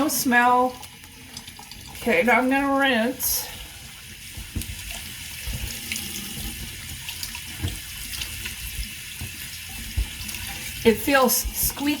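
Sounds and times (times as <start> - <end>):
hands being rinsed: 0.0 - 12.0
tap water running into sink: 0.0 - 12.0.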